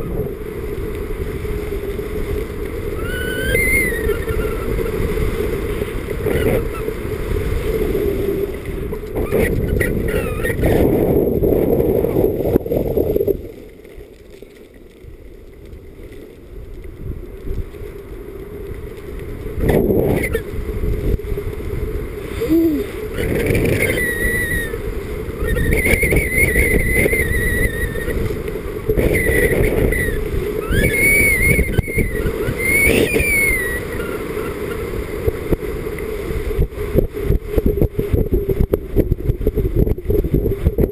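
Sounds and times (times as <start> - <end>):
wind buffeting microphone: 0.0 - 13.7, 15.0 - 40.9
skis scraping over snow: 0.0 - 40.9.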